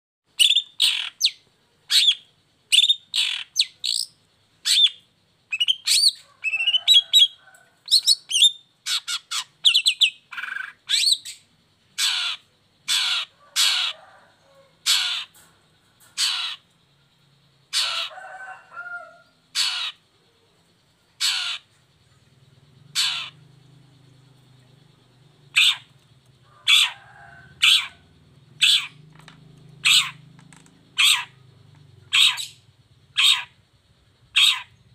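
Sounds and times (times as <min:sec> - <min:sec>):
faint low hum: 0:00.3 - 0:34.9
shrike singing harsh calls: 0:00.3 - 0:34.9.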